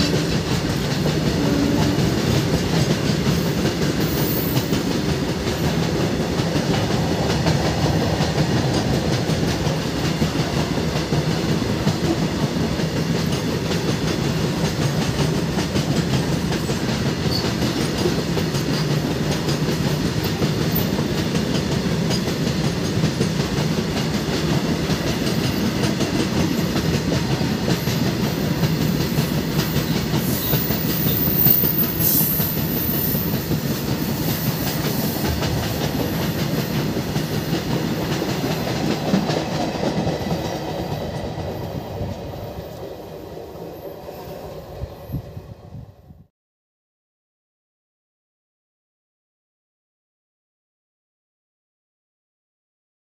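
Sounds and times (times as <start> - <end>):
steel wheels running on rails: 0.0 - 44.7.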